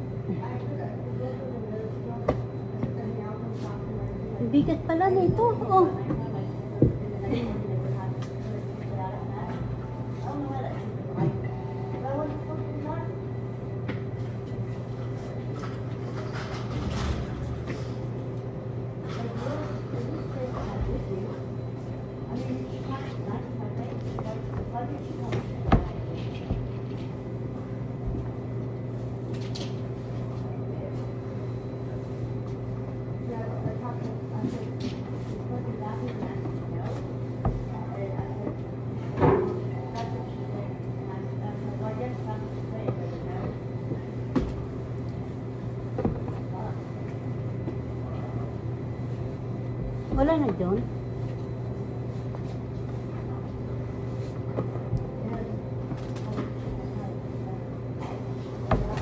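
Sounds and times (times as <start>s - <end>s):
laundromat machines humming: 0.0s - 59.0s.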